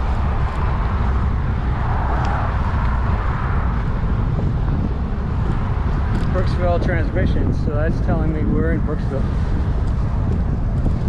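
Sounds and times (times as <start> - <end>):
road traffic rushing: 0.0 - 11.0
wind buffeting microphone: 0.0 - 11.0.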